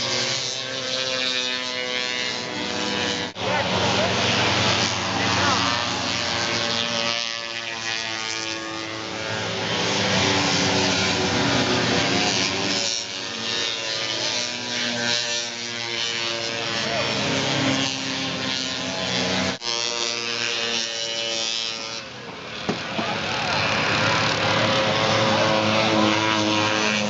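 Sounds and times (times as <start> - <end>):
snowmobile engines racing by: 0.0 - 27.0.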